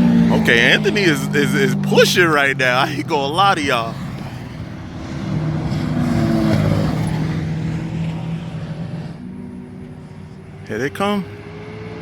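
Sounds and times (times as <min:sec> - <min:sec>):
sports car passing at speed: 0:00.0 - 0:12.0.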